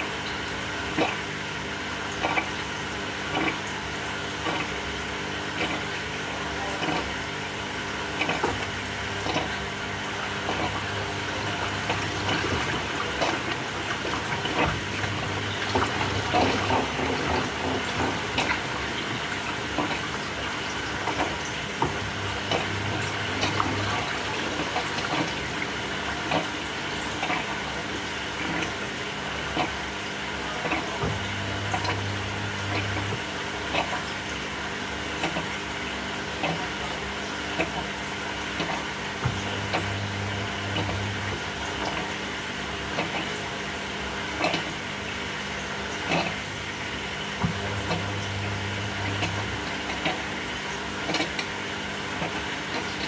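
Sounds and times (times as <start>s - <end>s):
low motor hum: 0.0s - 53.0s
water sloshing in washing machine: 0.0s - 53.0s.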